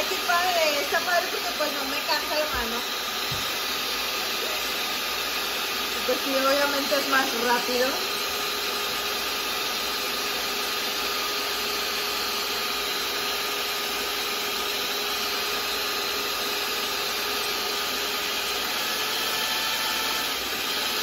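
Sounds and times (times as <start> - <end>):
stand mixer whirring: 0.0 - 21.0.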